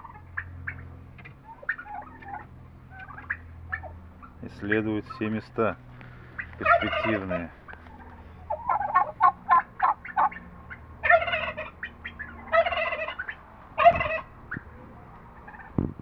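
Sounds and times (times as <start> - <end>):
turkey clucking and calling: 0.0 - 16.0.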